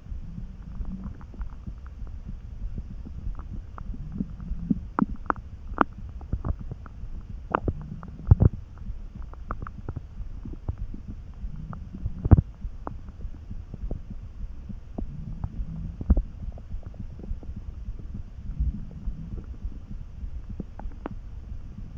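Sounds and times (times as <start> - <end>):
stomach rumbling and gurgling: 0.0 - 21.9.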